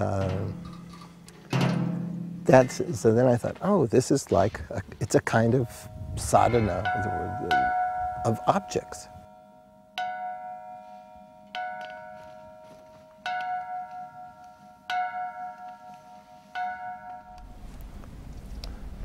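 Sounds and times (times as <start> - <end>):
metal object struck ringing: 0.0 - 3.0, 5.3 - 17.6.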